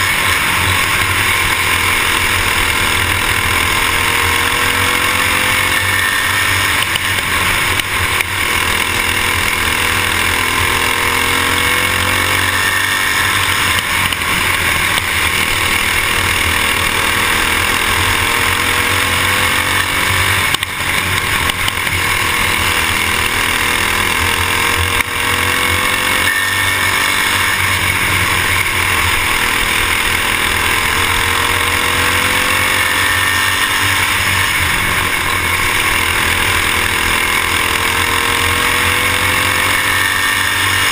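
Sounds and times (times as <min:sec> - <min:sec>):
kart engine revving: 0:00.0 - 0:40.9
steady rushing noise: 0:00.0 - 0:40.9.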